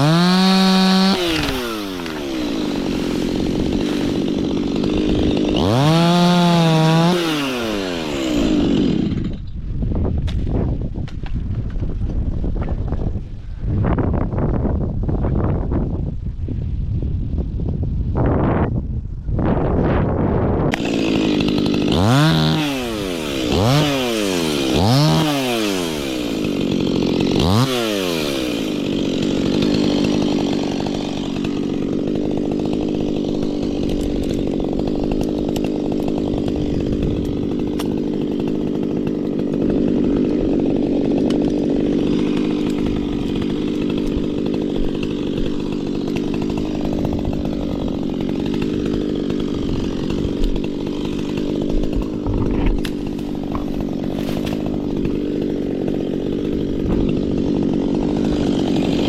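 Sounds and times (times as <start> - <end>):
chainsaw revving: 0.0 - 9.6, 20.6 - 59.0.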